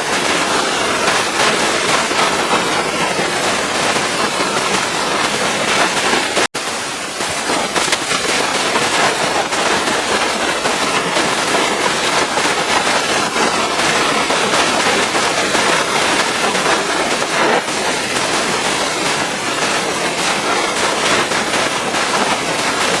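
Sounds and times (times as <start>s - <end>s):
pressure washer water jet spraying: 0.0s - 23.0s.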